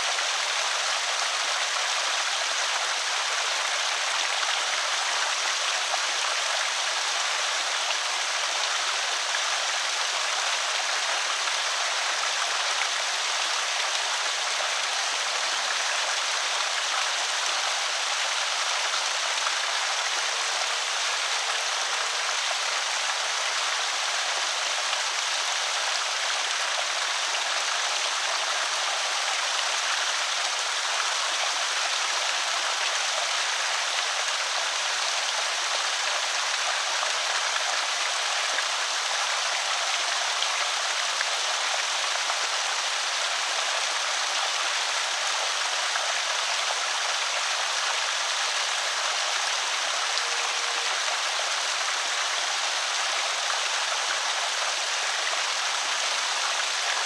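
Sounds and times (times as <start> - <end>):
water pouring over spillway: 0.0 - 57.0.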